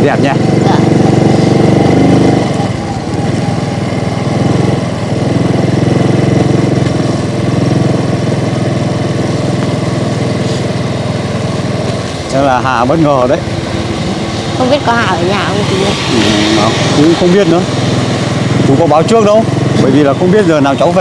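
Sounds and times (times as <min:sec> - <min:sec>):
motorbike engine running: 0:00.0 - 0:21.0.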